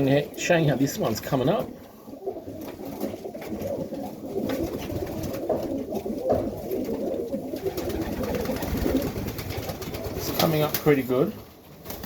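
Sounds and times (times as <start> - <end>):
pigeons cooing: 0.0 - 10.4.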